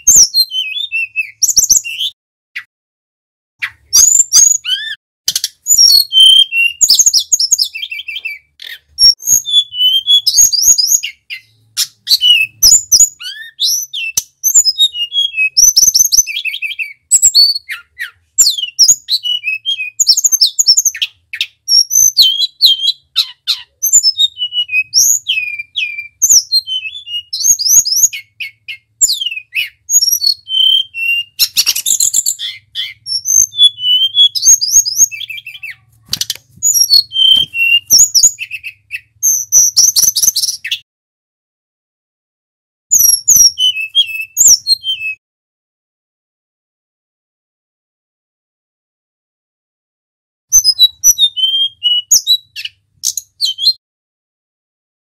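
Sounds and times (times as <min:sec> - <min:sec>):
bird singing whistles and trills: 0:00.0 - 0:02.7, 0:03.6 - 0:40.8, 0:42.9 - 0:45.2, 0:50.5 - 0:53.8.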